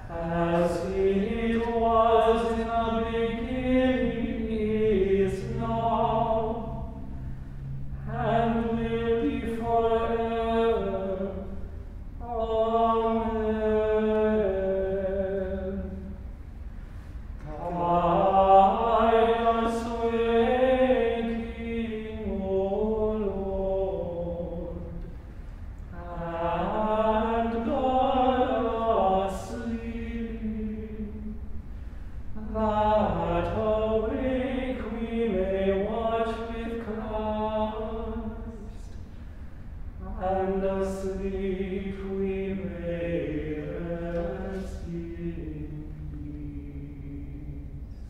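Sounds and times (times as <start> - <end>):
men singing unaccompanied chant: 0.0 - 11.5, 12.2 - 16.1, 17.4 - 25.1, 25.9 - 31.3, 32.4 - 38.9, 40.0 - 47.8.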